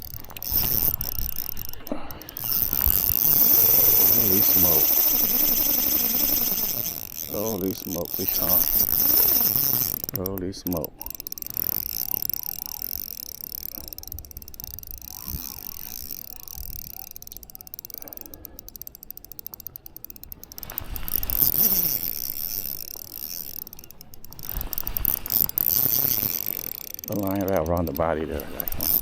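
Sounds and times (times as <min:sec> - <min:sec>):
fishing reel clicking and whirring: 0:00.0 - 0:29.0.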